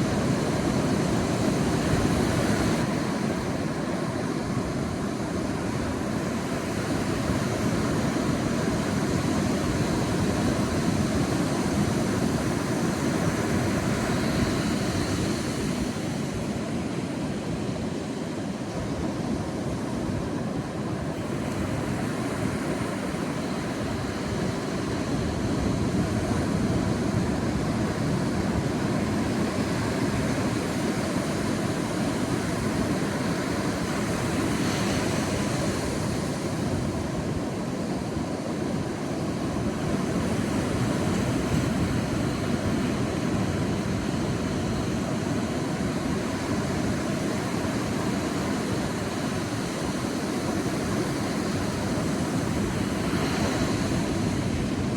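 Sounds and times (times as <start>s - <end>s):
sea waves rolling onto beach: 0.0s - 54.9s.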